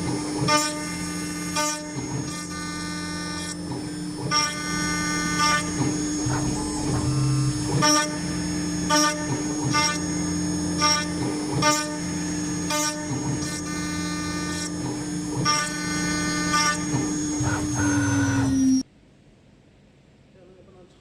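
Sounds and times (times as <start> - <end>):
router spindle whining: 0.0 - 18.8
cutter ringing screeches: 0.5 - 18.8.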